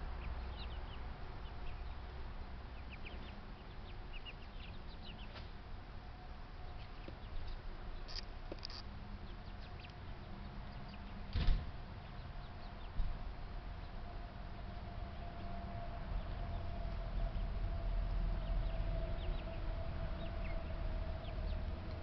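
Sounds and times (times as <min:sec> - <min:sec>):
birds chirping: 0:00.0 - 0:22.0
faint steady hum: 0:00.0 - 0:22.0.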